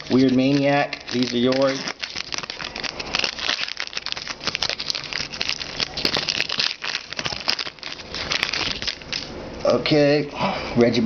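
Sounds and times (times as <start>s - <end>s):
wrapper being torn and crinkled: 0.0s - 9.3s.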